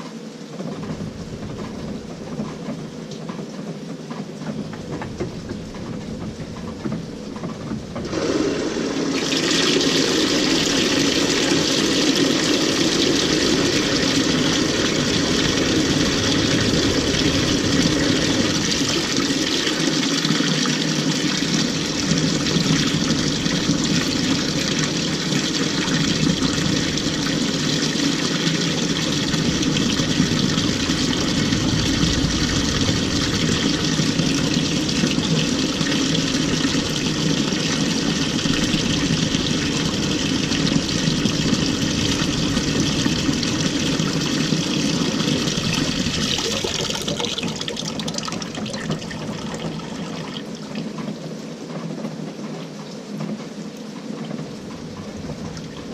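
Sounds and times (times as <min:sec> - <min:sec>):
water pouring into washing machine: 0:04.5 - 0:51.3, 0:54.3 - 0:55.9.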